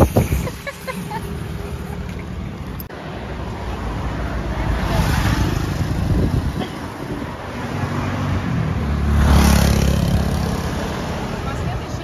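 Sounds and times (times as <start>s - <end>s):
motorbike passing: 0.0s - 12.0s
car passing: 1.1s - 12.0s.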